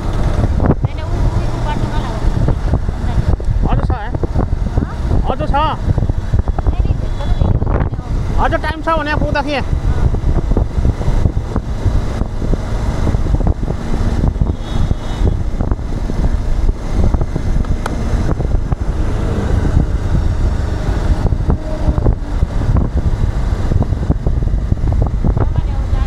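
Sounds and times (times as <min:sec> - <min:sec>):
road traffic noise: 0:00.0 - 0:26.0
wind rumble on microphone: 0:00.0 - 0:26.0.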